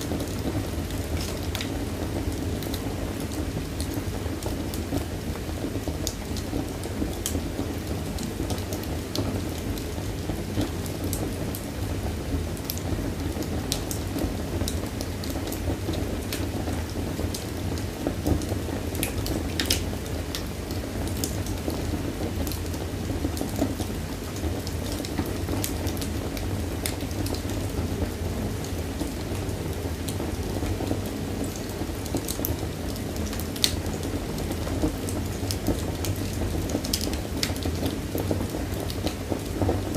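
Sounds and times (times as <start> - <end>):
fire crackles and pops: 0.0 - 39.9
wood fire rumbling: 0.0 - 39.9.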